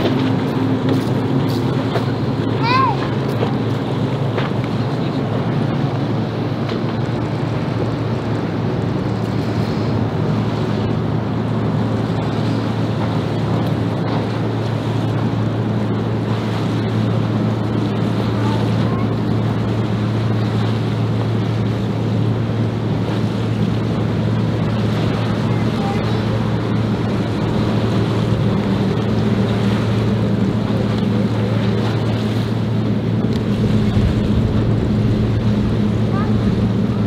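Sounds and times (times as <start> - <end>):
boat motor humming: 0.0 - 37.0
rushing water: 0.0 - 37.0
wind on microphone: 0.0 - 37.0.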